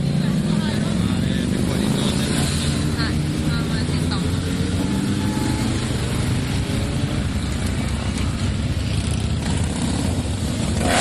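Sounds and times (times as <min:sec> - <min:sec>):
motorcycles rumbling past: 0:00.0 - 0:11.0.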